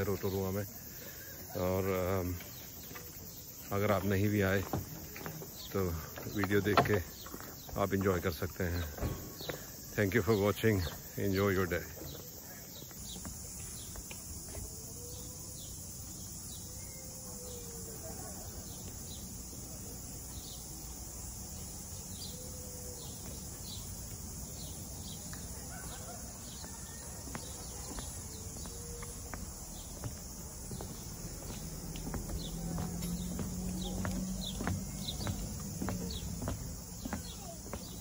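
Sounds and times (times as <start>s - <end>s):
insect chirping rhythmically: 0.0s - 38.0s.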